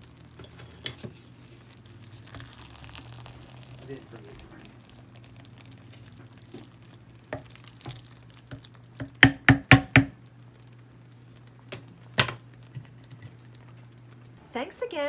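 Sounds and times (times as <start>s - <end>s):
wooden spoon stirring casserole: 0.0s - 14.4s.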